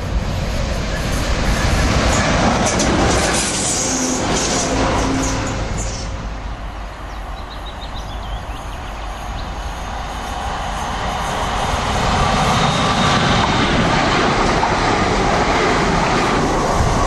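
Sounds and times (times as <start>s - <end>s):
electric train approaching: 0.0s - 17.0s
train rail noise: 0.0s - 17.0s.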